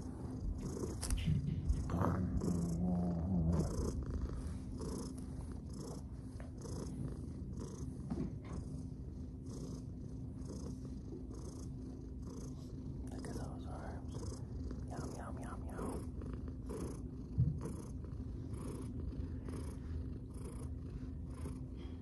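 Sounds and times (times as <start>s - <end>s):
cat purring: 0.0s - 22.0s
low humming tone: 0.0s - 22.0s.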